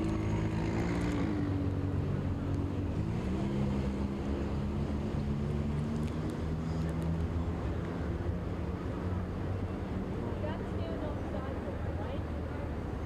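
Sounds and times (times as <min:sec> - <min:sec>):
low street traffic rumble: 0:00.0 - 0:13.0.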